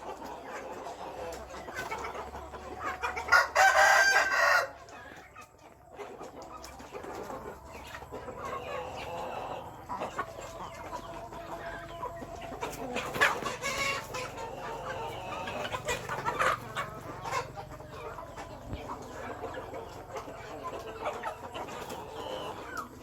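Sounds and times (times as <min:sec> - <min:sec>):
chickens clucking and calling: 0:00.0 - 0:23.0.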